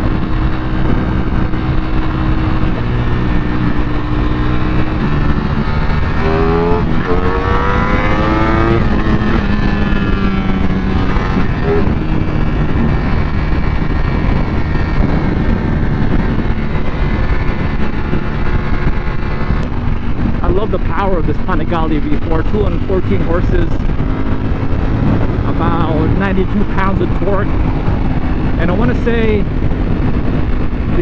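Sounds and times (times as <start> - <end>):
motorcycle engine accelerating: 0.0 - 31.0
wind and road noise: 0.0 - 31.0.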